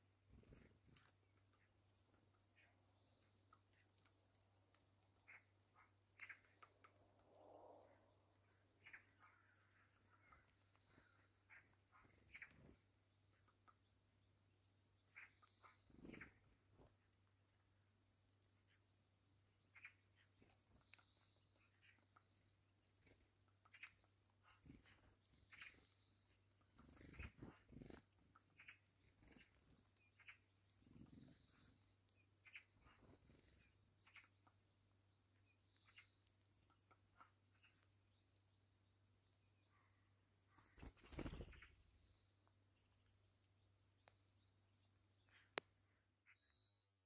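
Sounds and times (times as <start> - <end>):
small bird calling: 0.3 - 17.2, 18.2 - 47.0.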